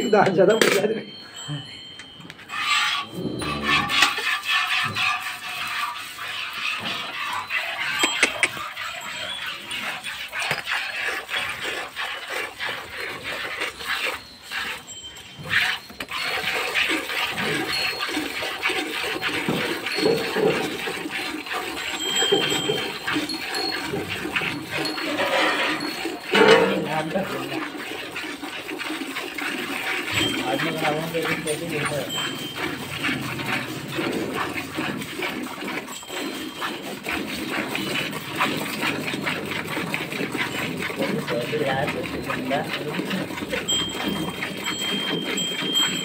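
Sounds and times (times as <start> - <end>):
milk squirting into steel bucket: 2.3 - 46.0.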